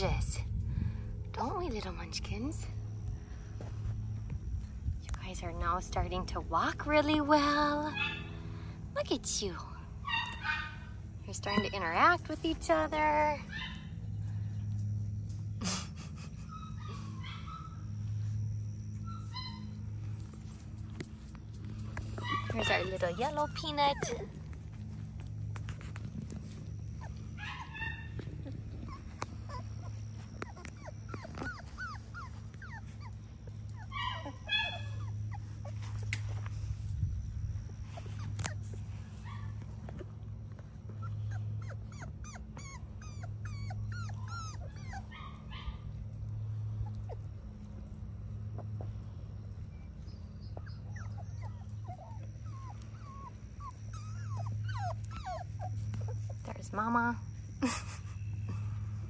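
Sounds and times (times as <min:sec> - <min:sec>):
low hum: 0:00.0 - 0:59.0
puppies whining: 0:06.8 - 0:14.7, 0:15.3 - 0:59.0.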